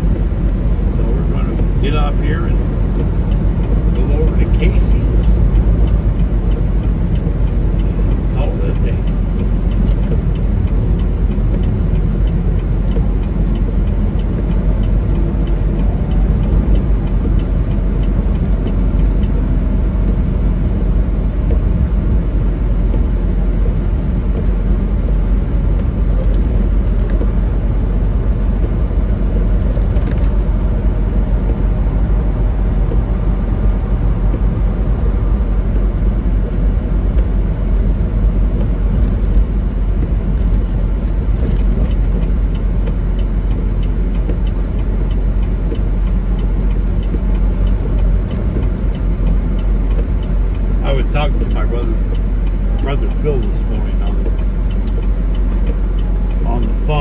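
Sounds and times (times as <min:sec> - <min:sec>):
diesel engine drone: 0:00.0 - 0:57.0
road rumble: 0:00.0 - 0:57.0.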